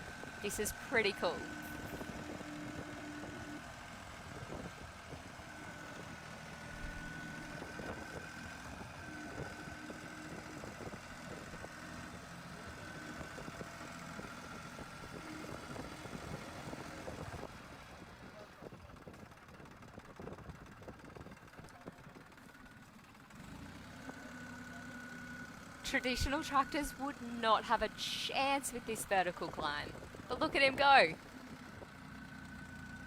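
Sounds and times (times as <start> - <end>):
tractor engine running at low revs: 0.0 - 33.0.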